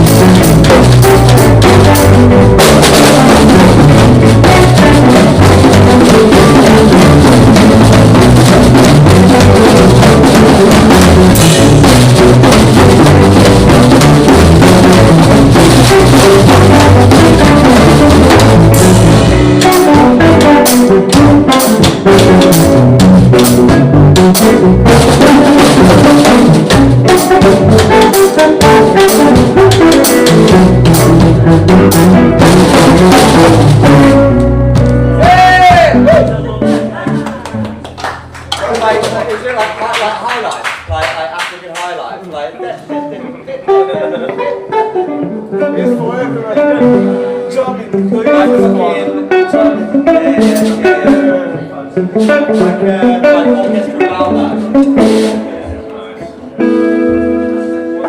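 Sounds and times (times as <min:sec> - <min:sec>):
live band playing loudly: 0:00.0 - 0:41.5, 0:42.6 - 0:58.0
drum kit beat: 0:00.0 - 0:42.1, 0:46.5 - 0:58.0.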